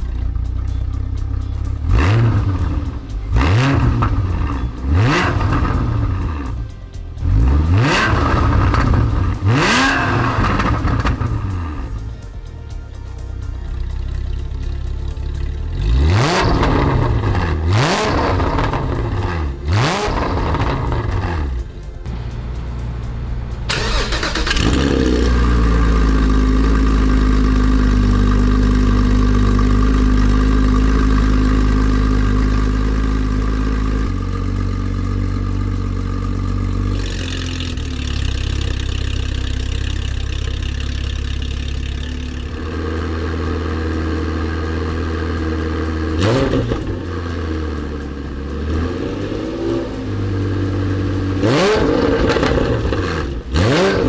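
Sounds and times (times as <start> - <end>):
engine throttle blips: 0.0 - 54.0
sports car engine idling: 0.0 - 54.0.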